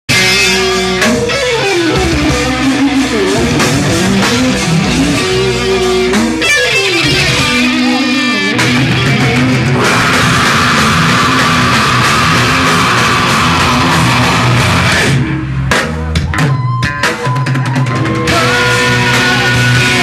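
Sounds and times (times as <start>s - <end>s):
electric guitar: 0.1s - 20.0s
rock band playing loudly: 0.1s - 20.0s.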